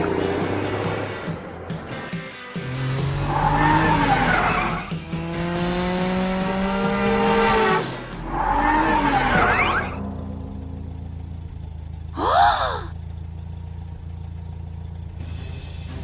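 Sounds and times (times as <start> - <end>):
cartoon car engine revving: 0.0 - 16.0.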